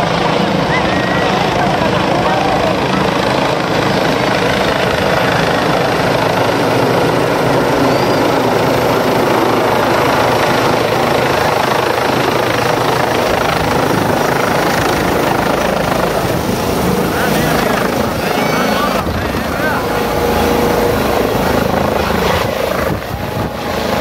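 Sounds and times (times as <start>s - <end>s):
helicopter rotor and turbine: 0.0s - 24.0s.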